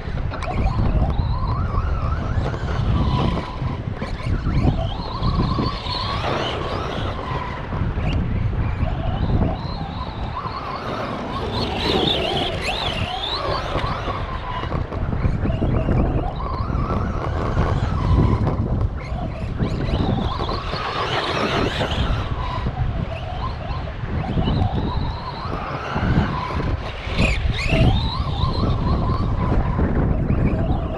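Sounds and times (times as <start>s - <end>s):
electric motor whining: 0.0s - 30.9s.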